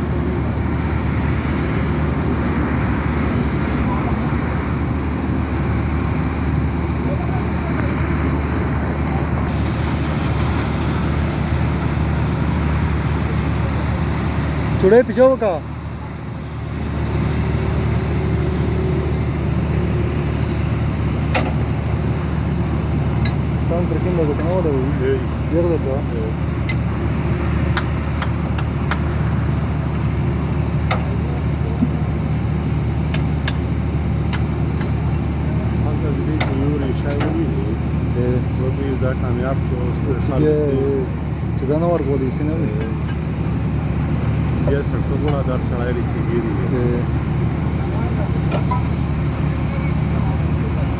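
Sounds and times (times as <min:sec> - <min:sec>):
drilling rig engine droning: 0:00.0 - 0:50.9.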